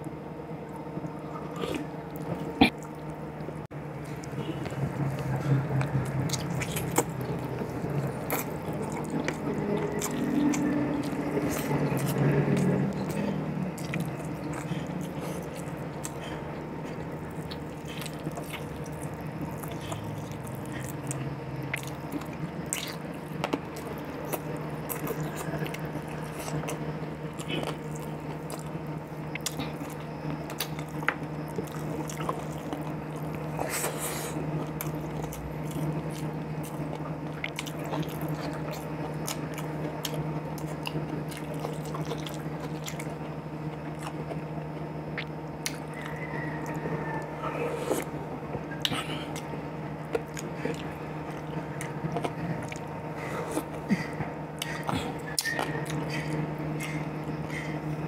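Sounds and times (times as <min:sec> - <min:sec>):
man chewing food: 0:00.0 - 0:58.0
steady low hum: 0:00.0 - 0:58.0.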